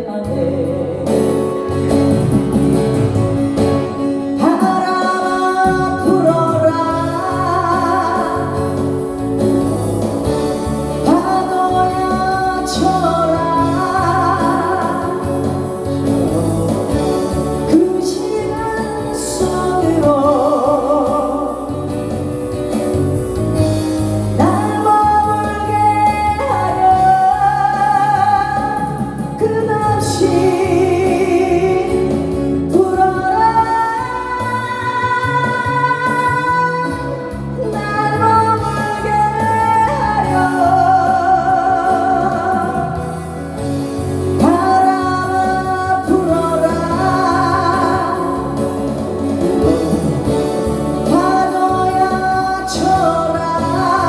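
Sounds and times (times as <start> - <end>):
backing accompaniment: 0.0 - 54.0
woman singing a slow song: 0.0 - 54.0.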